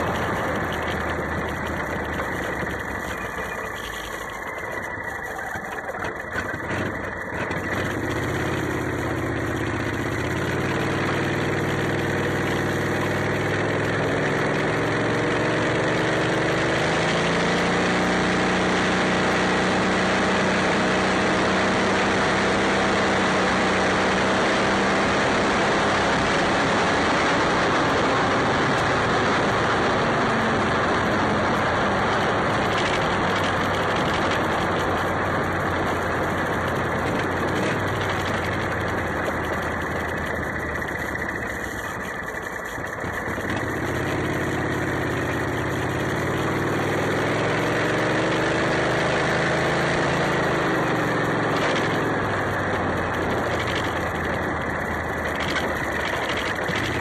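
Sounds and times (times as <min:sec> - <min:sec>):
golf cart engine running: 0:00.0 - 0:57.0.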